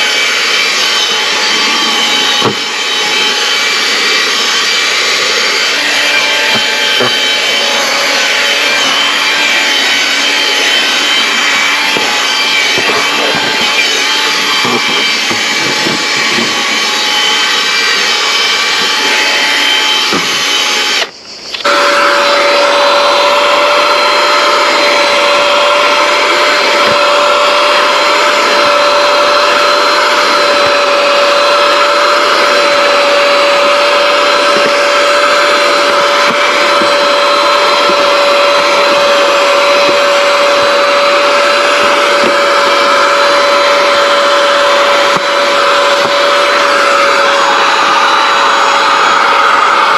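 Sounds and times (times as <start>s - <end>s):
vacuum motor whining: 0.0s - 49.9s.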